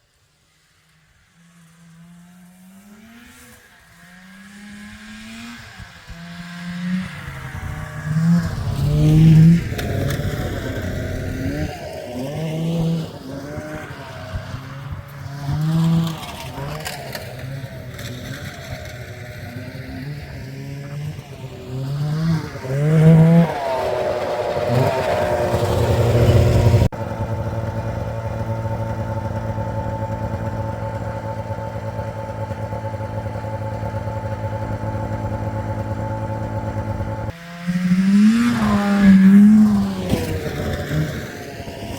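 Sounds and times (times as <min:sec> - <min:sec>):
snowmobile engine revving: 0:00.4 - 0:41.9.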